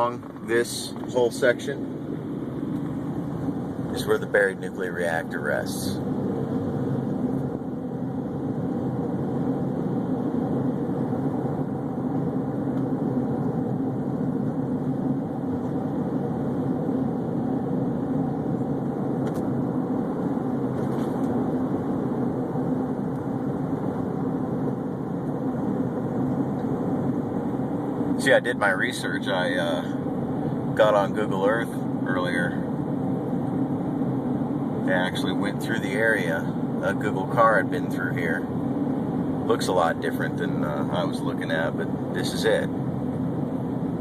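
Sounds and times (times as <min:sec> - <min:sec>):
car engine hum: 0:00.0 - 0:44.0
road noise: 0:00.0 - 0:44.0.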